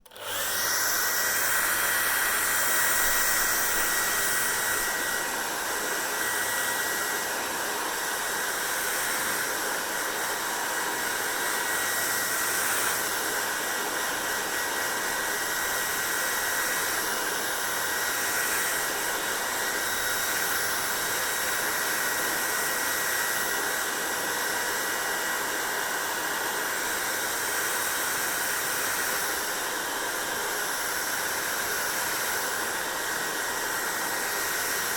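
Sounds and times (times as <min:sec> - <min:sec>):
hair dryer blowing: 0:00.0 - 0:34.9
hair dryer whine: 0:00.0 - 0:34.9.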